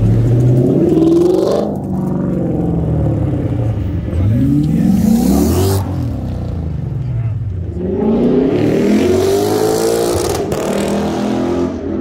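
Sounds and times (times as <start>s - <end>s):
car engine revving: 0.0s - 7.0s, 7.6s - 12.0s.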